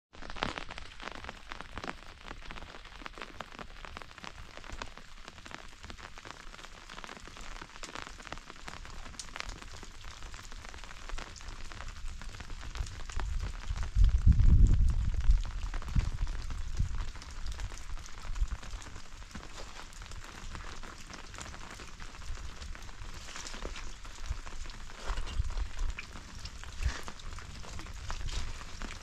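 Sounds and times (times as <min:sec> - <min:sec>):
rain pattering: 0:00.1 - 0:29.0.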